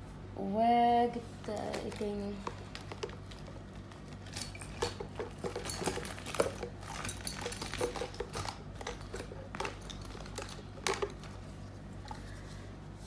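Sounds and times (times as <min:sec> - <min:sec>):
low electrical hum: 0:00.0 - 0:13.0
art supplies clicking and rattling: 0:01.4 - 0:12.4.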